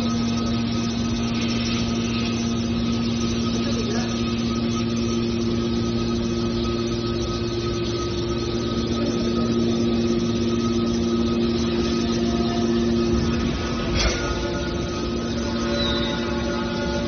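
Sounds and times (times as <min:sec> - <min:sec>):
hydraulic power unit humming: 0:00.0 - 0:17.0.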